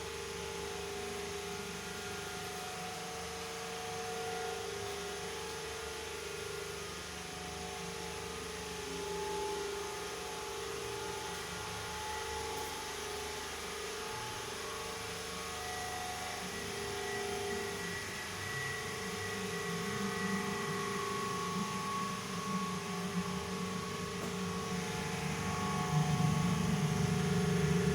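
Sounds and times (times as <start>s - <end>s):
motor drone: 0.0s - 27.9s.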